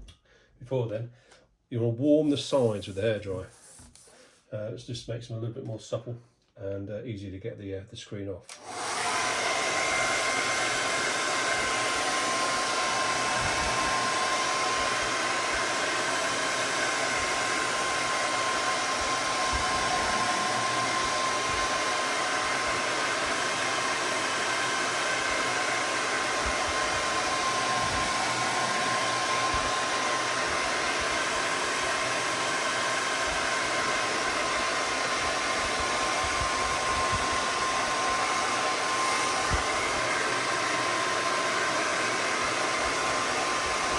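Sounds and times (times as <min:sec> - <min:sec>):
hair dryer running: 0:08.5 - 0:43.9.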